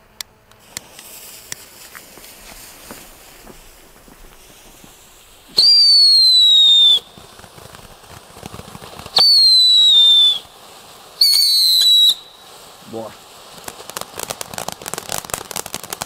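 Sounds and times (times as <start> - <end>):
whistling firework: 0.0 - 16.0.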